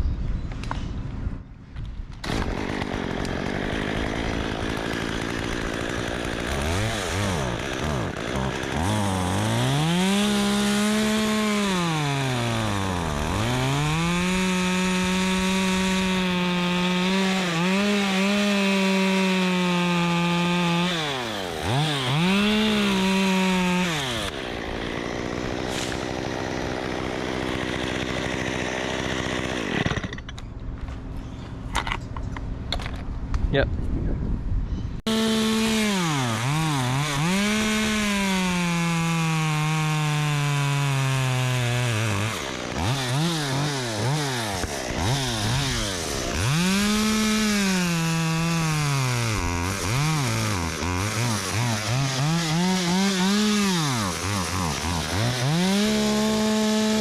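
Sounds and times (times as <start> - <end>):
chainsaw idling: 2.2 - 30.2, 35.1 - 57.0
chainsaw cutting branch: 2.2 - 30.3, 35.1 - 57.0.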